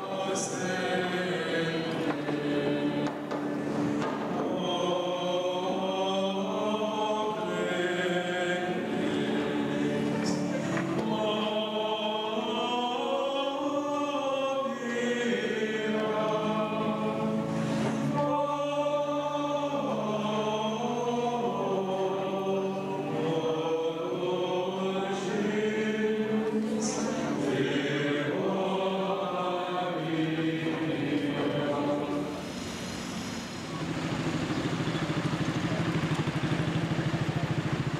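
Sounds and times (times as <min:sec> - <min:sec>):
choir singing a slow chant: 0:00.0 - 0:37.9.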